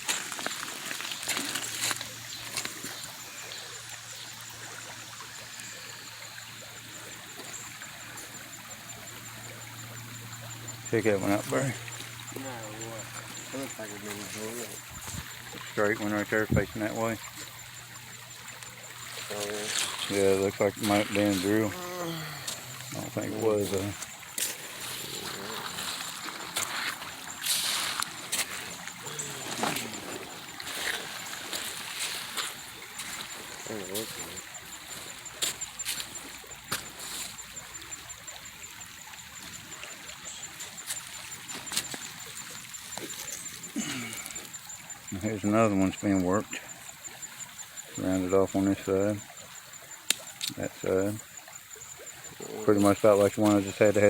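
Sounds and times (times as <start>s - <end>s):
creek water trickling over rocks: 0.0s - 54.0s.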